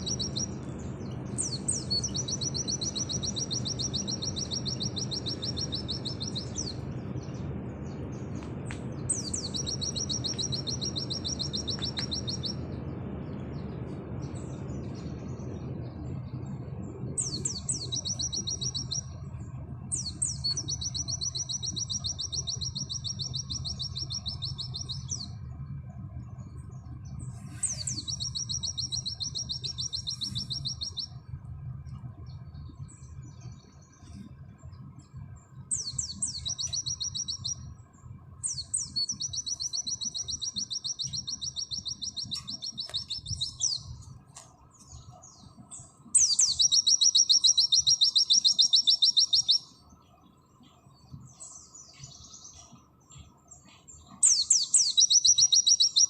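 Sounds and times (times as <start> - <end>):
bird singing fast high trills: 0.0 - 8.3, 9.0 - 16.4, 17.1 - 25.6, 26.5 - 31.3, 35.6 - 44.2, 44.8 - 56.0
steady low hum: 0.0 - 56.0.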